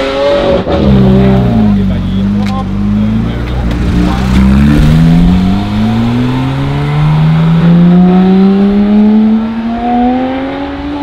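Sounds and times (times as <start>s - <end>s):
sports car accelerating: 0.0s - 11.0s.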